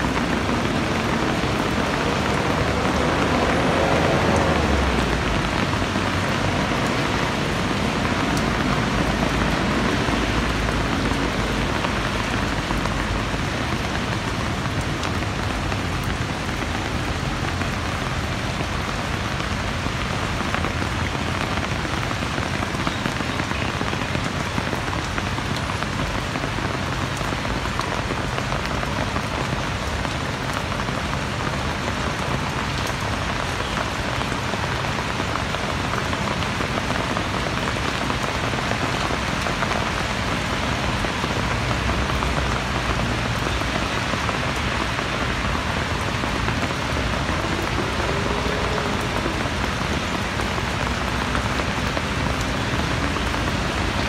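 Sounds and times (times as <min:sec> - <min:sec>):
steady rain hiss: 0:00.0 - 0:54.0
raindrop ticks: 0:00.1 - 0:54.0.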